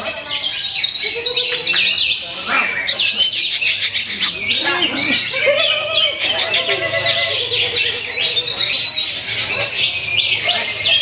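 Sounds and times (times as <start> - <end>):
bird singing chirps and trills: 0.0 - 11.0.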